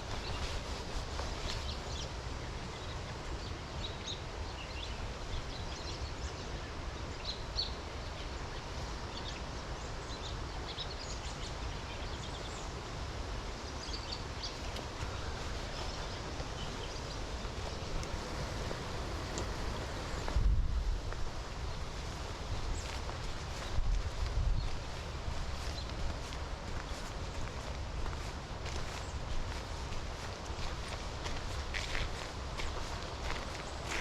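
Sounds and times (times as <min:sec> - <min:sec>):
soft rain: 0:00.0 - 0:34.0
wind in the trees: 0:00.0 - 0:34.0
wind rumble on microphone: 0:00.0 - 0:34.0.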